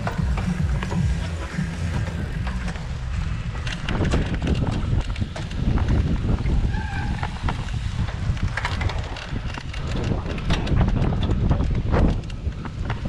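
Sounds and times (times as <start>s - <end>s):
bike rattling and clicking: 0.0s - 13.0s
wind buffeting microphone: 0.0s - 13.0s.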